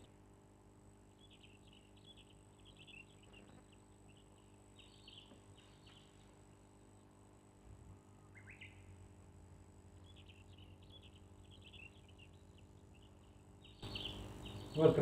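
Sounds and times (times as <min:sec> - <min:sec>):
low steady hum: 0:00.0 - 0:15.0
faint bird chirps: 0:01.0 - 0:15.0.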